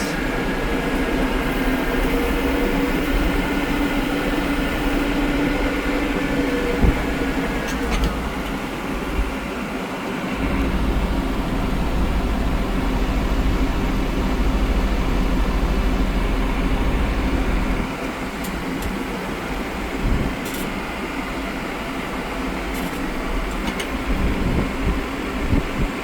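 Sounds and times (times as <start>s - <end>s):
tractor engine rumbling: 0.0s - 9.7s, 10.3s - 25.0s.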